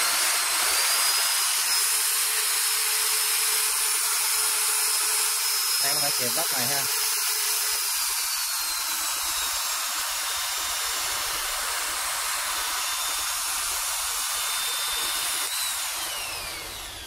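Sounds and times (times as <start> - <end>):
electric drill whirring: 0.0 - 17.0.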